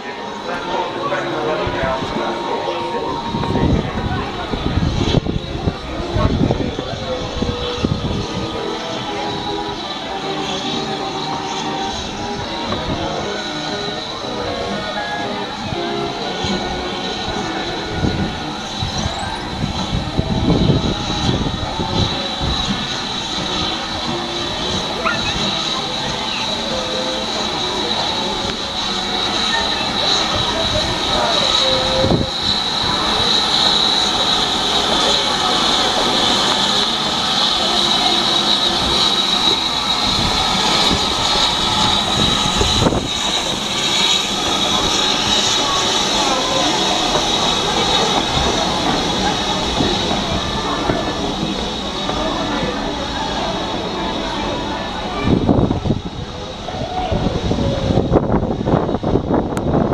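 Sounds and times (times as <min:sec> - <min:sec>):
steam locomotive exhaust puffing: 0:00.4 - 0:59.9.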